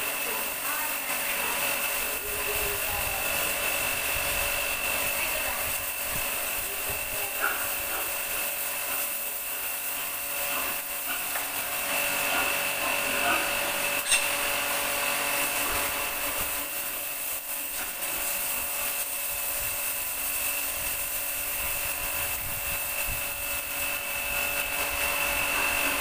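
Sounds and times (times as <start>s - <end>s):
pressure washer whining: 0.0s - 26.0s
water jet spraying concrete: 0.0s - 26.0s.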